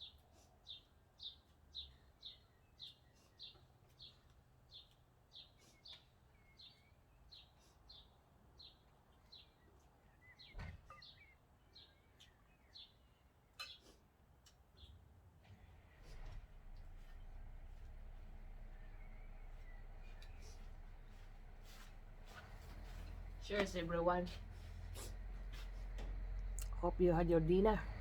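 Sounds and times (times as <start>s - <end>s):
bird chirping: 0.0s - 13.9s, 17.0s - 28.0s.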